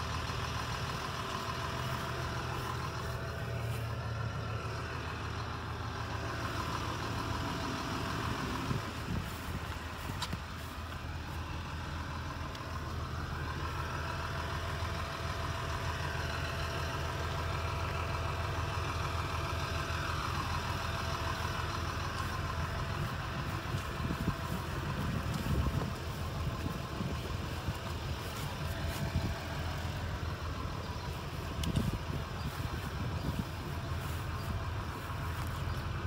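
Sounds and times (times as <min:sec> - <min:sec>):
tractor diesel engine idling: 0:00.0 - 0:36.0.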